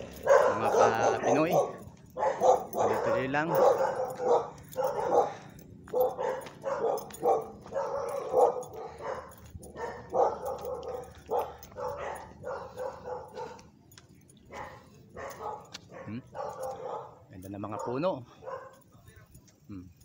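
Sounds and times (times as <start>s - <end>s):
dog barking: 0.0s - 13.8s, 14.4s - 18.9s.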